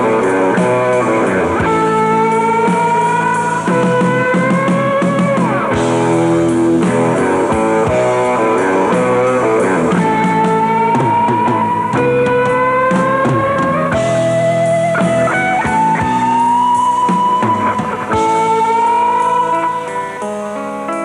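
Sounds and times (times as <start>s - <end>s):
choppy guitar chords: 0.0s - 21.0s
drums and cymbals: 0.0s - 21.0s
electric lead guitar bending notes: 0.0s - 21.0s.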